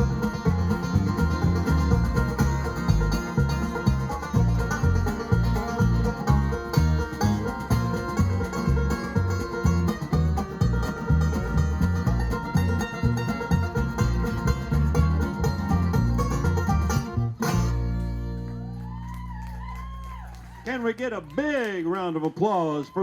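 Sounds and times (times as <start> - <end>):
acoustic bluegrass string band: 0.0 - 20.3.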